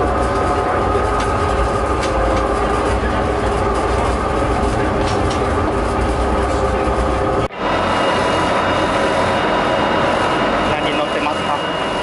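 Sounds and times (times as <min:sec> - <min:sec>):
steady tones: 0:00.0 - 0:12.0
vehicle engine drone: 0:00.0 - 0:12.0.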